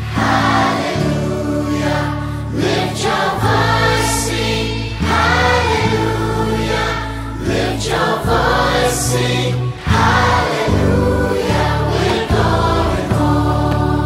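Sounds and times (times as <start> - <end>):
choir singing held notes: 0.0 - 14.0
sustained bass notes: 0.0 - 14.0.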